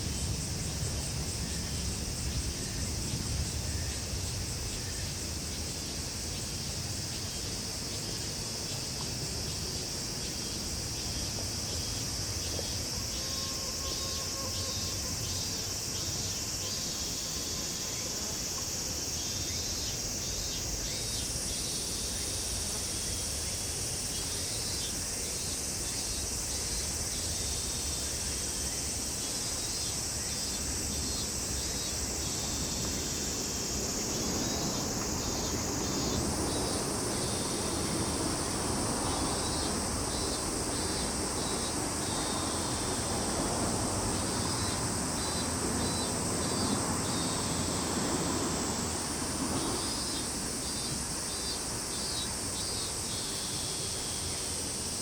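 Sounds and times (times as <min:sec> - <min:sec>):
cicada drone: 0:00.0 - 0:55.0
rapid pulsed insect chirping: 0:00.0 - 0:55.0.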